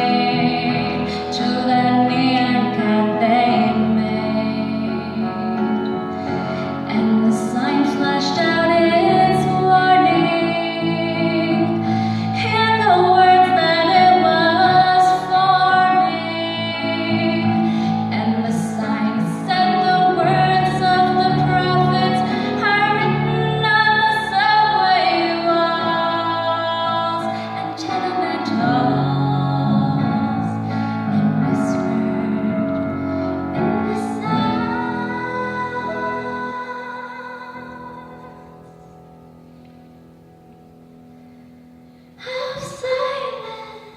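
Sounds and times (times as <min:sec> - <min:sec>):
woman singing: 0:00.0 - 0:39.0, 0:42.2 - 0:43.9
soft instrumental accompaniment: 0:00.0 - 0:43.9.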